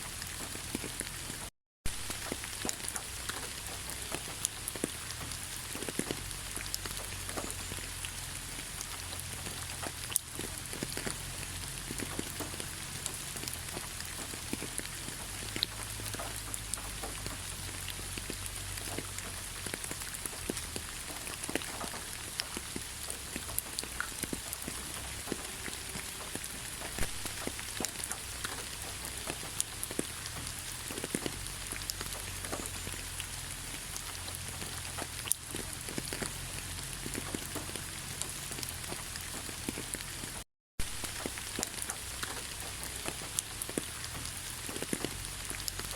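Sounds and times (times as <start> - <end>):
raindrops ticking: 0.0 - 45.9
steady rain pattering: 0.0 - 45.9.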